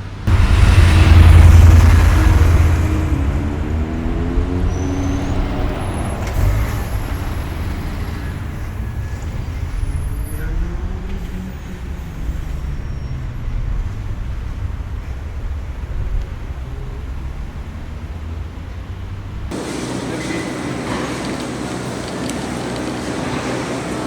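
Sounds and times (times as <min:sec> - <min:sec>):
vehicle engine passing: 0:00.0 - 0:20.0
low rumble of traffic: 0:00.0 - 0:24.0.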